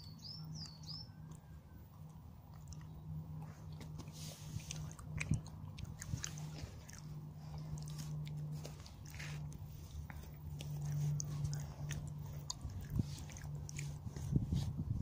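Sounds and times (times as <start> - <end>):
steady low hum: 0.0 - 15.0
chewing and crunching chocolate: 0.1 - 15.0.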